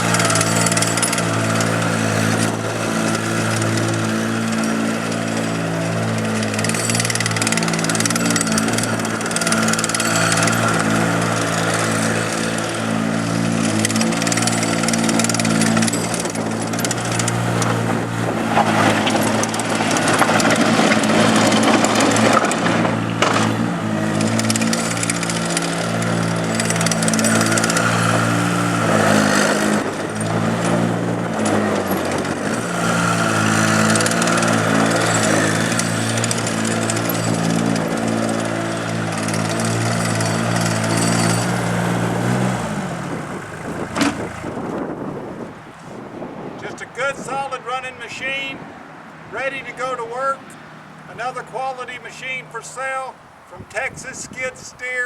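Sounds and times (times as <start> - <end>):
skid steer diesel engine running: 0.0 - 55.0.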